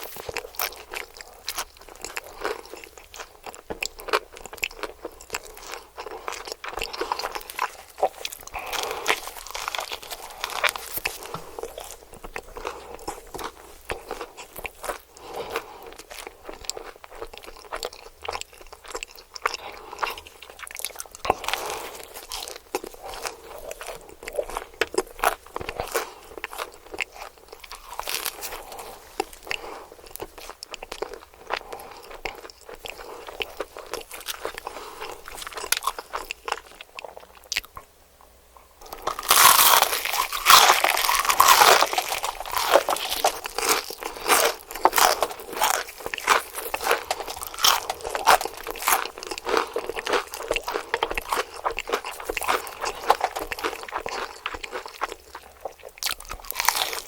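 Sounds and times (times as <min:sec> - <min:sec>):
crunching fried chicken: 0:00.0 - 0:37.9, 0:38.8 - 0:57.0.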